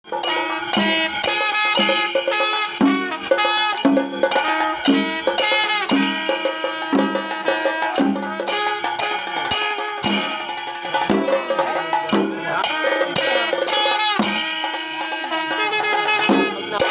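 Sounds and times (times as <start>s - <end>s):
steady percussion beat: 0.0s - 16.9s
melody: 0.2s - 16.9s.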